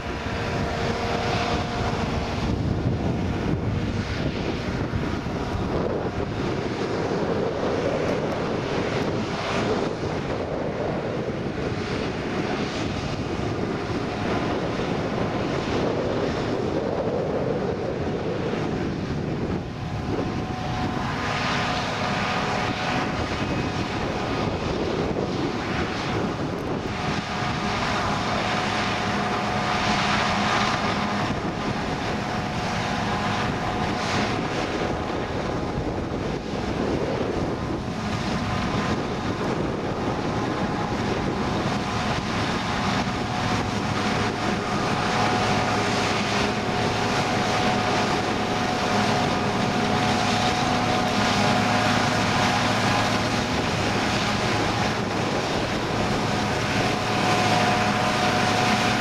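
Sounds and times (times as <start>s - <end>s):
chopping machinery whine: 0.0s - 59.0s
heavy engine drone: 0.0s - 59.0s.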